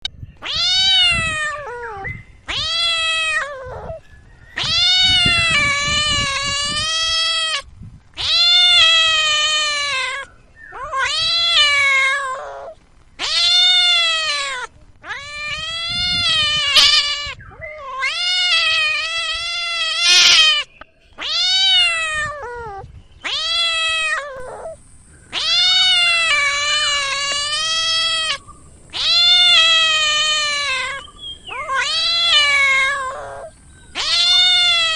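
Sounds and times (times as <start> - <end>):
cat meowing: 0.0 - 4.0, 4.6 - 7.6, 8.2 - 34.9.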